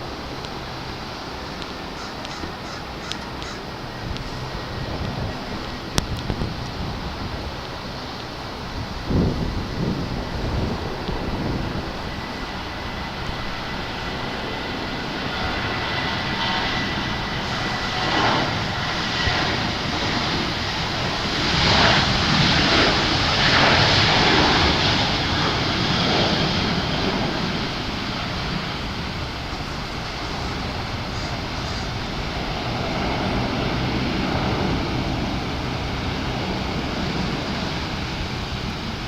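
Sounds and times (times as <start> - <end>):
high jet whine: 0.0 - 39.0
jet engines at takeoff: 0.0 - 39.0.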